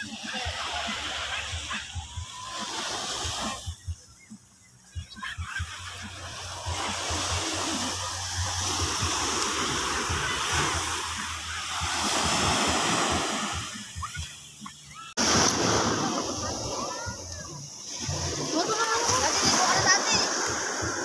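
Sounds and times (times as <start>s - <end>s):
sea waves breaking on beach: 0.0s - 3.9s, 5.2s - 21.0s.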